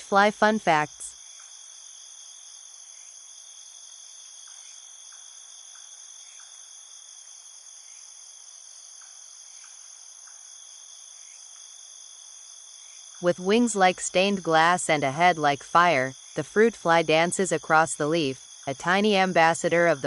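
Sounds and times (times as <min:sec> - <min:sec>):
insect chorus trilling: 0:00.1 - 0:20.0.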